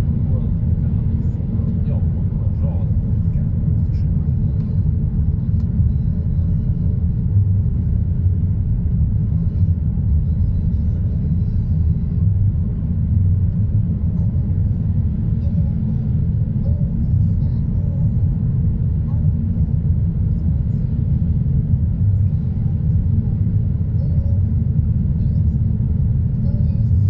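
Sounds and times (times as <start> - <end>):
car interior road rumble: 0.0 - 27.0.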